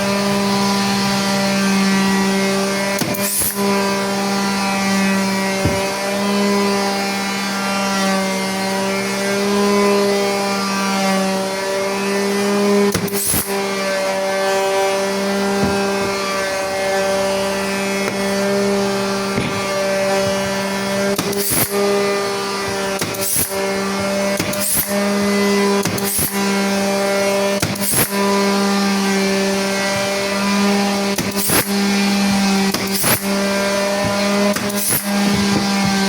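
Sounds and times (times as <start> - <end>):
power tool motor running: 0.0 - 36.0.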